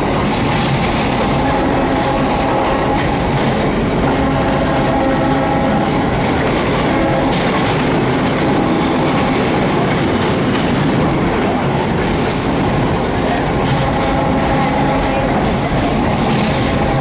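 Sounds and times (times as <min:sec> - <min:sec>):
train wheels running on rails: 0:00.0 - 0:17.0.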